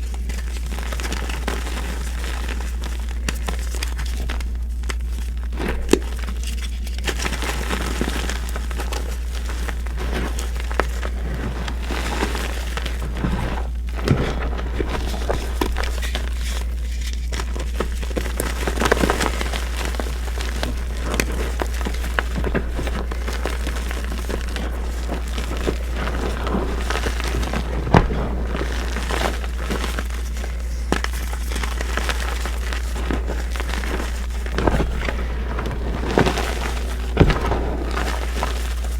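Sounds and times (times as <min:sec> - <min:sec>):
chalk crunching and crackling: 0:00.0 - 0:38.9
steady low hum: 0:00.0 - 0:38.9
chalk cracking: 0:02.4 - 0:38.9.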